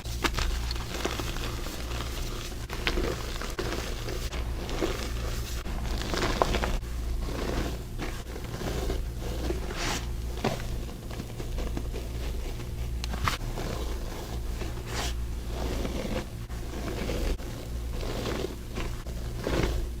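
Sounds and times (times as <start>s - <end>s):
baking soda crunching: 0.0s - 20.0s.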